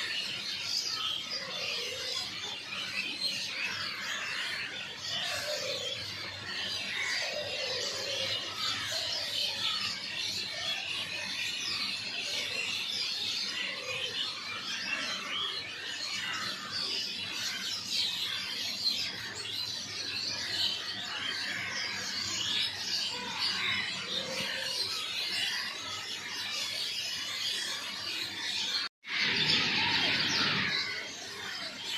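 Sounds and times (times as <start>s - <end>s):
flock of birds chirping: 0.0s - 31.9s.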